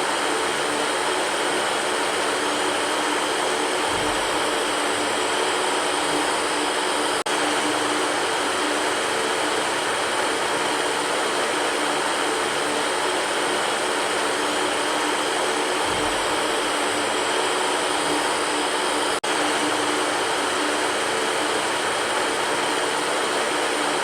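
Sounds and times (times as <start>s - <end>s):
electric fan whirring: 0.0s - 24.0s.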